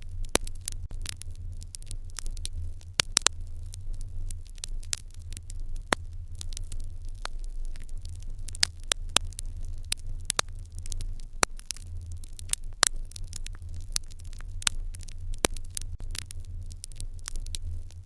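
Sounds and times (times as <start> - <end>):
fire crackling and popping: 0.0 - 18.0
low rumble: 0.0 - 18.0.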